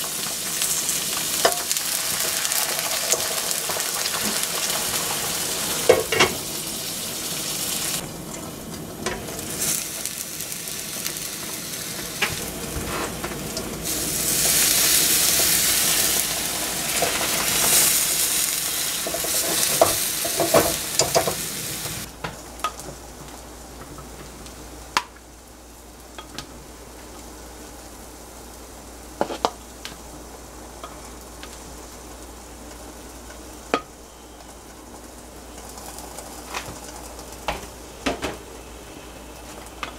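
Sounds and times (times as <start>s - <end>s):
eggs sizzling in oil: 0.0s - 39.9s.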